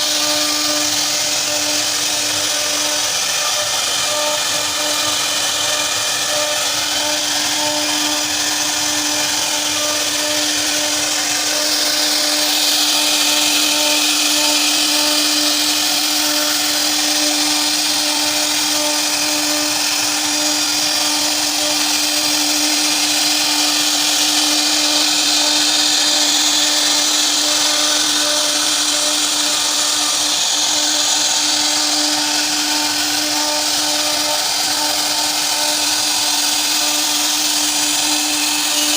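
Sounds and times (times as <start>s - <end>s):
bit cutting wood hiss: 0.0s - 38.9s
router spindle whining: 0.0s - 38.9s.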